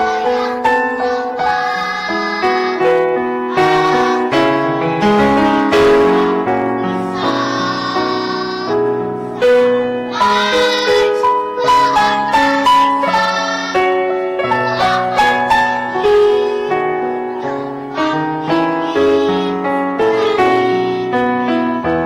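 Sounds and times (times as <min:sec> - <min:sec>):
children's choir singing: 0:00.0 - 0:21.6
instrumental accompaniment: 0:00.0 - 0:22.0.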